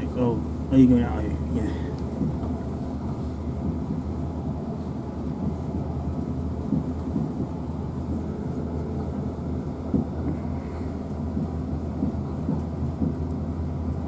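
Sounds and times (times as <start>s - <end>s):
train rumbling at speed: 0.0s - 14.0s.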